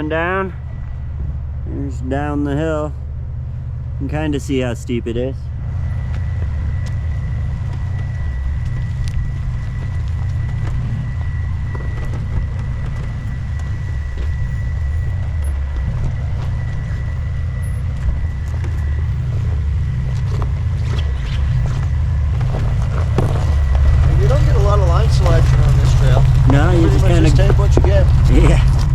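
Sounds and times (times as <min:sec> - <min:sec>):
faint high whine: 0:00.0 - 0:28.9
vehicle engine rumbling: 0:00.0 - 0:28.9.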